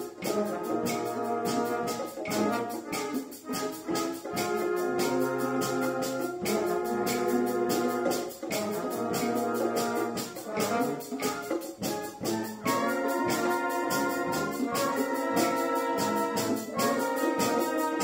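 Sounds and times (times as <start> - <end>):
wind band playing: 0.0 - 18.0.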